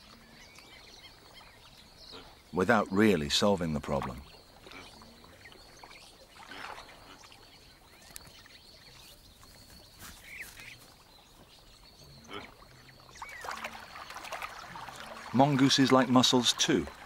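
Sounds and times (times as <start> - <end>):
faint river ambience: 0.0 - 17.0.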